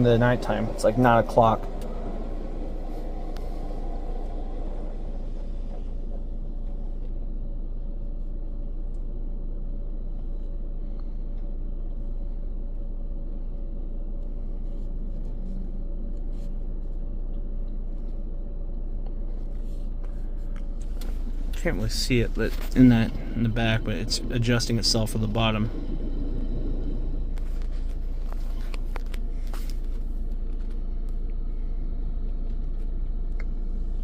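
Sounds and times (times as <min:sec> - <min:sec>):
car wash low rumble: 0:00.0 - 0:34.0.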